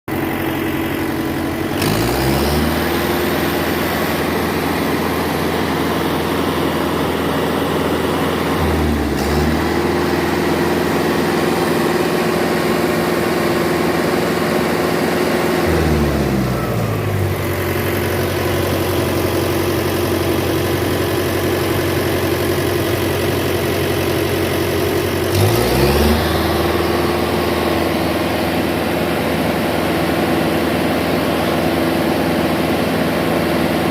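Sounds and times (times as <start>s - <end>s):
car engine revving: 1.0s - 23.0s, 24.5s - 29.9s.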